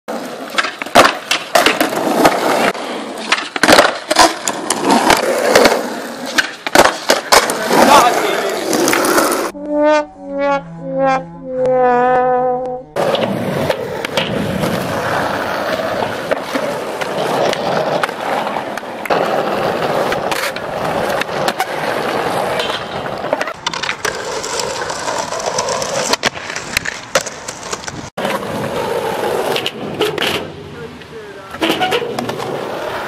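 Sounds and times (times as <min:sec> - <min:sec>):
skateboard wheels rolling: 0:00.1 - 0:09.6, 0:13.0 - 0:33.0
skateboard clacks and knocks: 0:00.4 - 0:09.5, 0:13.0 - 0:30.5.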